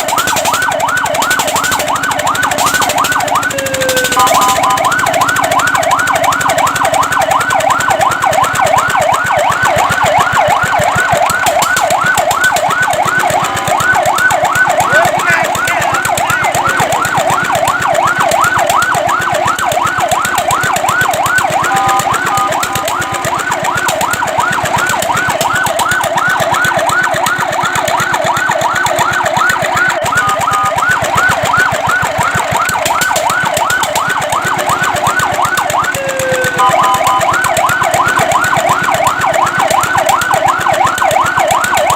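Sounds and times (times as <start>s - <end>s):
fire truck siren yelping: 0.0s - 41.9s
steady two-note siren tones: 0.0s - 41.9s.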